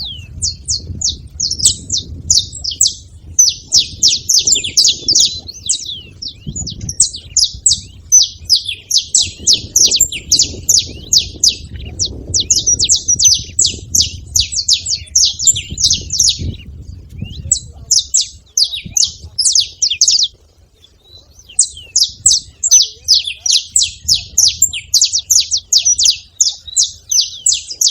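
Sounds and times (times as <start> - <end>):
finches chirping: 0.0 - 27.9.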